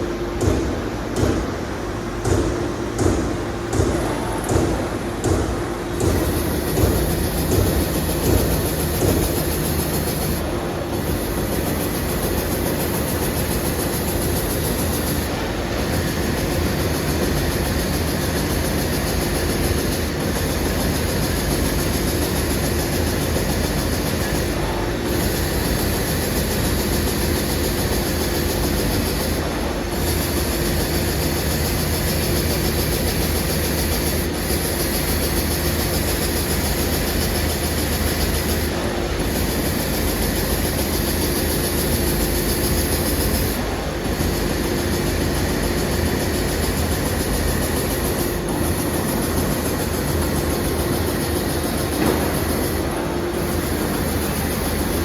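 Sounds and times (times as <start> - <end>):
punch press running: 0.0 - 55.0.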